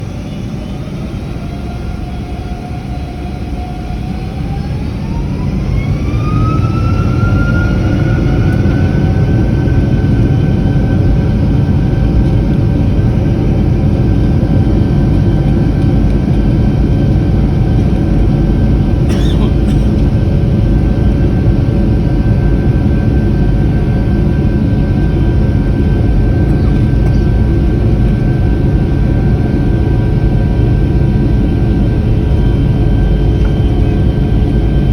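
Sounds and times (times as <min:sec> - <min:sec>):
jet engines spooling up: 0:00.0 - 0:34.9.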